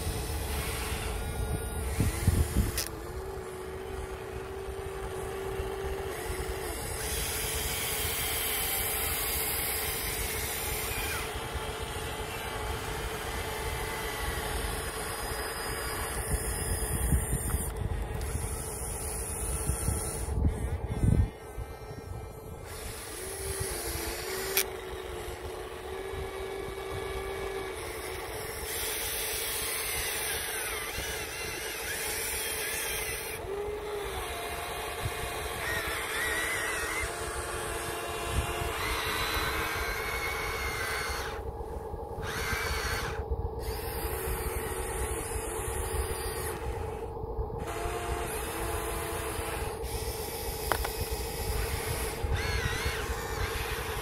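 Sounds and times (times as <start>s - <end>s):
small electric motors whining: 0.0s - 54.0s
steady hum: 0.0s - 54.0s.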